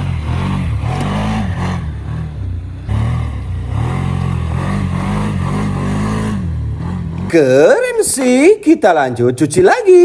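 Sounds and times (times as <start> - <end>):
engine revving: 0.0 - 8.2.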